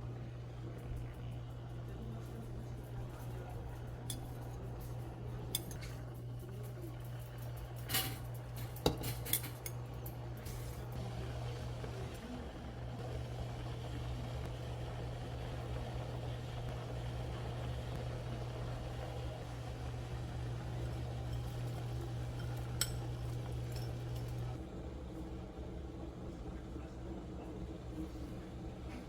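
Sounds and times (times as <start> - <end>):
appliance motor hum: 0.0 - 29.0.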